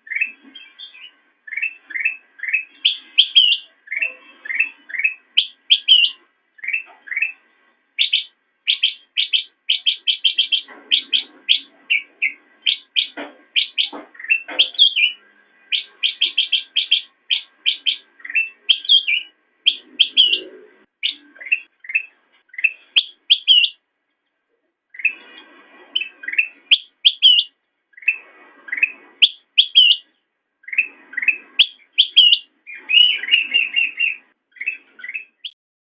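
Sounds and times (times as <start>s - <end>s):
bird singing quick chirps: 0.0s - 7.4s, 8.0s - 23.8s, 24.9s - 35.6s.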